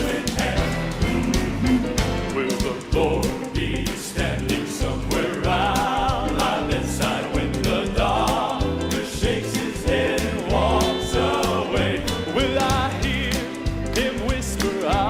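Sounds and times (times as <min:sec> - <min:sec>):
band with bass and drums: 0:00.0 - 0:15.0
vocal quartet singing in harmony: 0:00.0 - 0:15.0.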